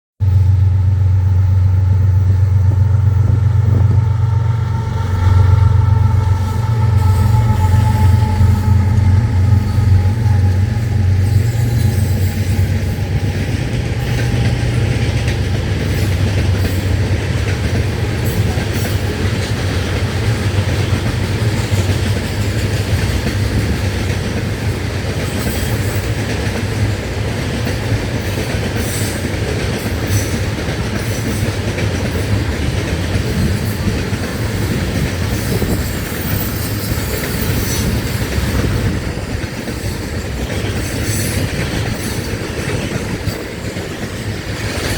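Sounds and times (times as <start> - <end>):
diesel locomotive engine drone: 0.2 - 44.9
train wheels rumbling on rail: 0.2 - 44.9
wheels clicking over rail joints: 5.7 - 44.9.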